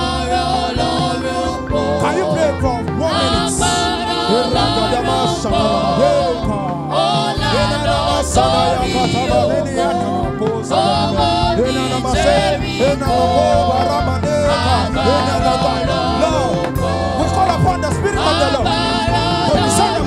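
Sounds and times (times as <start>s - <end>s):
choir singing gospel: 0.0s - 20.0s
instrumental backing: 0.0s - 20.0s.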